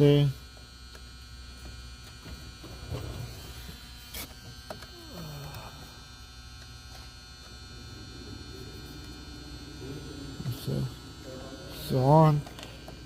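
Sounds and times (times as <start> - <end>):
electrical hum and buzz: 0.0 - 13.0.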